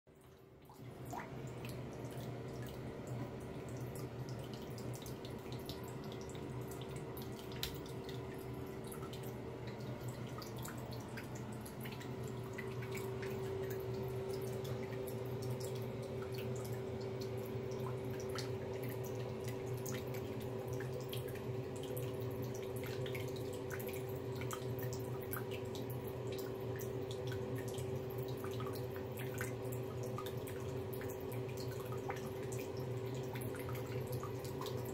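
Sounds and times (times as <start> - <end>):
water trickling into sink: 0.1 - 34.9
cat lapping water: 0.2 - 34.9
steady hum: 0.2 - 34.9.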